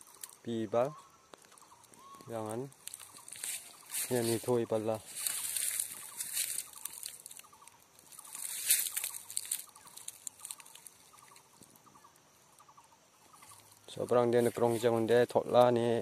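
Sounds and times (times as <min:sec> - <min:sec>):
faint bird calls: 0:00.0 - 0:15.2
dry leaves and twigs crackling: 0:00.0 - 0:16.0.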